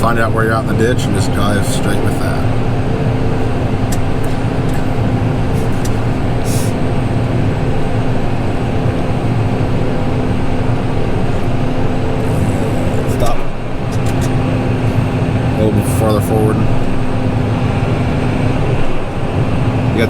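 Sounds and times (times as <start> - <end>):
tractor engine hum: 0.0 - 20.0.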